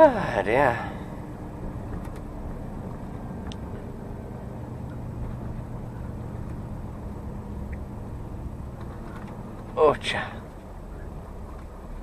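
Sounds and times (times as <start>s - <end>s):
lorry diesel engine droning: 0.0s - 12.0s
road noise: 0.0s - 12.0s.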